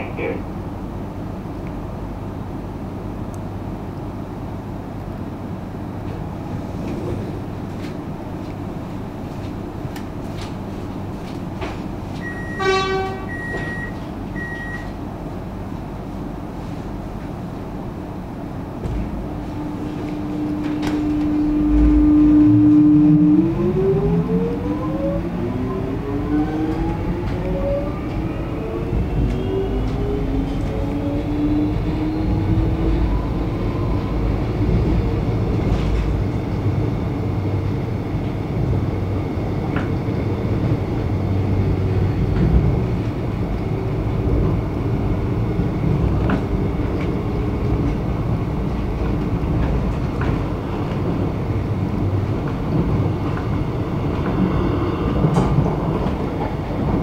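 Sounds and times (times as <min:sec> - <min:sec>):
electric train whine: 0:00.0 - 0:57.0
train hum: 0:00.0 - 0:57.0
wheel-on-rail rumble: 0:05.0 - 0:23.9, 0:24.5 - 0:57.0.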